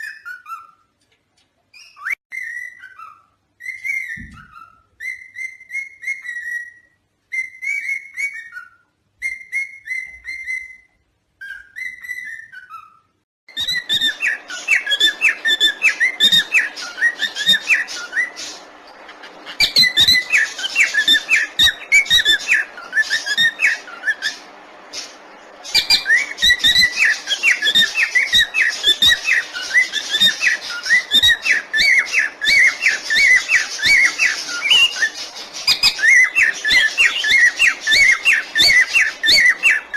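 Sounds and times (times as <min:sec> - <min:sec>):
parrots whistling: 0:00.0 - 0:00.9, 0:01.7 - 0:39.9
parrots chirping and chattering: 0:00.0 - 0:39.9.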